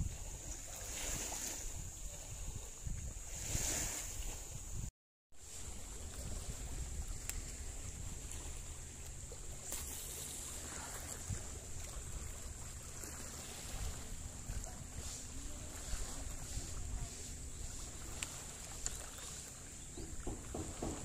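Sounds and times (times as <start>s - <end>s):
open sea: 0.0s - 21.0s
wind rumble on microphone: 0.0s - 21.0s.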